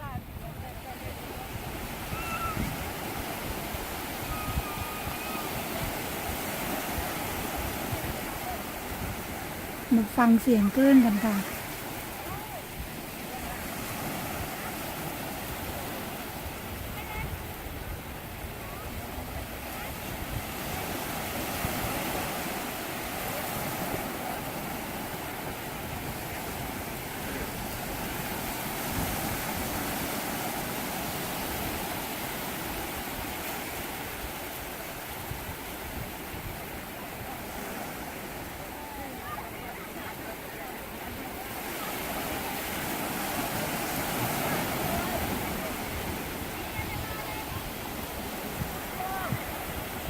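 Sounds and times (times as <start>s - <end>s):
wind buffeting microphone: 0.0s - 10.7s, 11.4s - 33.4s, 42.1s - 50.0s
sea waves washing onto beach: 0.0s - 50.0s.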